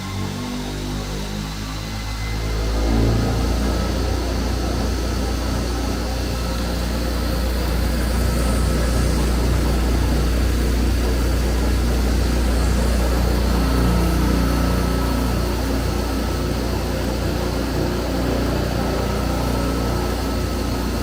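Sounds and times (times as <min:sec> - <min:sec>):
foam-cutting machine humming: 0:00.0 - 0:21.0.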